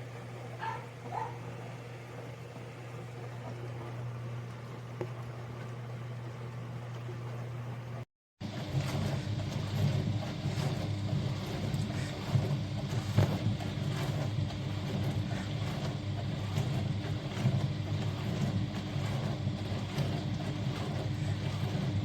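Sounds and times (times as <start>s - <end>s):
dishwasher pump humming: 0.0s - 22.0s.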